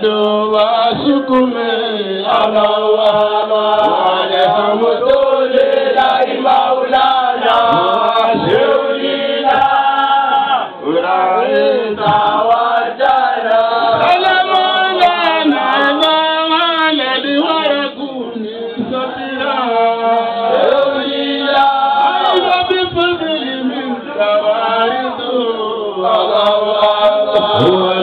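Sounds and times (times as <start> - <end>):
men chanting together: 0.5 - 18.0, 18.6 - 28.0.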